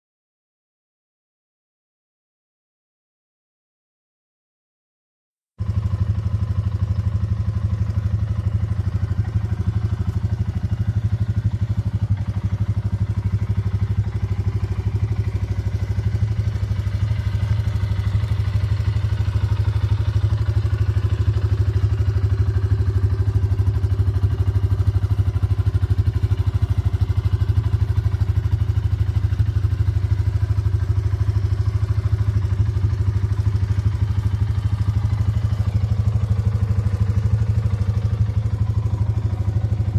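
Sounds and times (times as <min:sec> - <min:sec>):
quad bike engine idling: 0:05.6 - 0:39.9.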